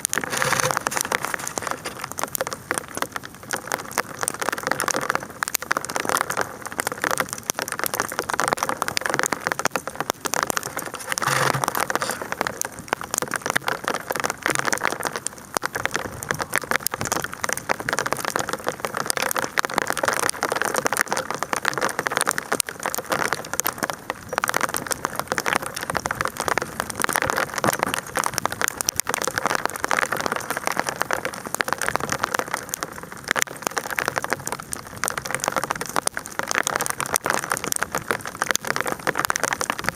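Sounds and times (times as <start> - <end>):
hail pattering: 0.0 - 39.9.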